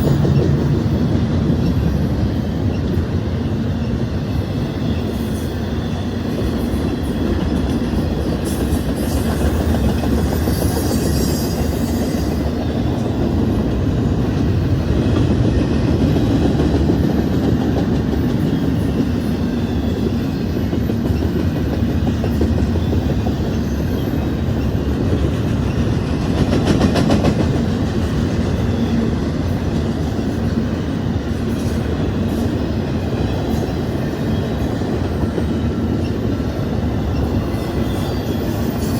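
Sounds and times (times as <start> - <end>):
train wheels rumbling with clickety-clack: 0.0 - 38.9.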